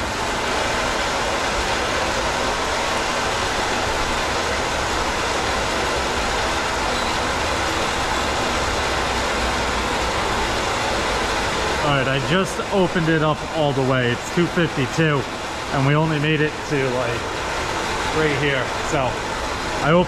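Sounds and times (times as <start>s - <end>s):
water rushing into a tank: 0.0s - 20.0s.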